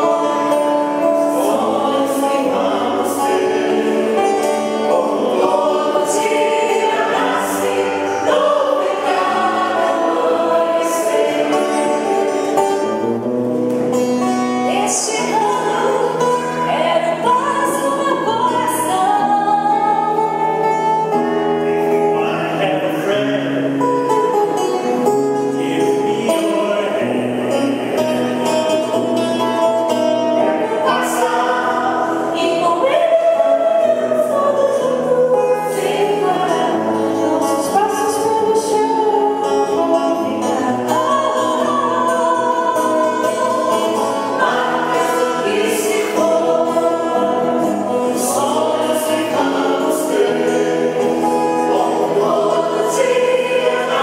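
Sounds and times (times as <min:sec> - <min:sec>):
group singing gospel in harmony: 0:00.0 - 0:13.4, 0:14.4 - 0:24.8, 0:25.4 - 0:54.0
acoustic guitar: 0:00.0 - 0:54.0.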